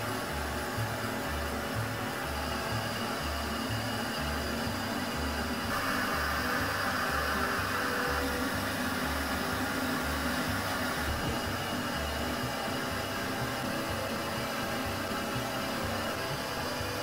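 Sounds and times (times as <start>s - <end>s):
coffee roaster blower rushing: 0.0s - 17.0s.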